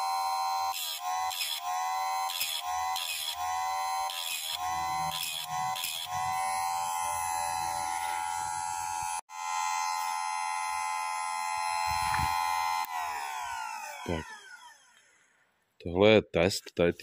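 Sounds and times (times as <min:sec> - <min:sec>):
sharpener motor whining: 0:00.0 - 0:15.3.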